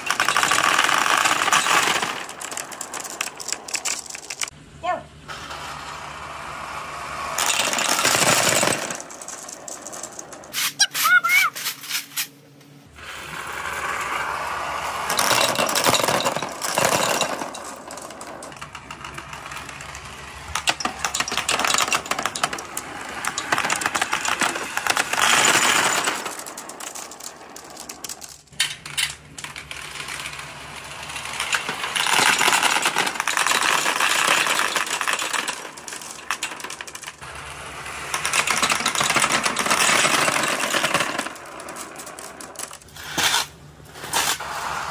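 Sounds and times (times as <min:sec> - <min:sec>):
marbles rolling and clattering: 0:00.0 - 0:04.6, 0:05.3 - 0:12.2, 0:12.9 - 0:44.9.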